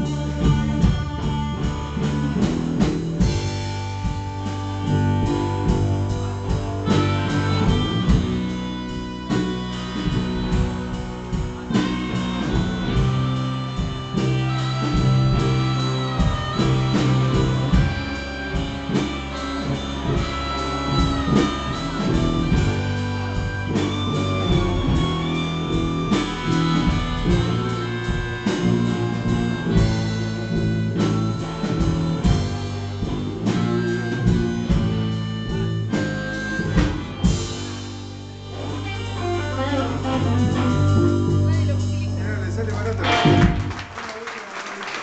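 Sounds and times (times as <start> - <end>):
guitar-led song: 0.0 - 44.0
steady drum beat: 0.0 - 44.3.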